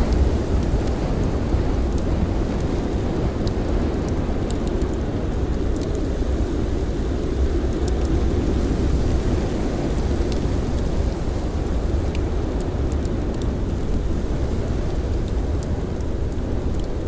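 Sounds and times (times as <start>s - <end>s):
blizzard wind rumbling: 0.0s - 17.0s
campfire crackles: 0.0s - 17.0s.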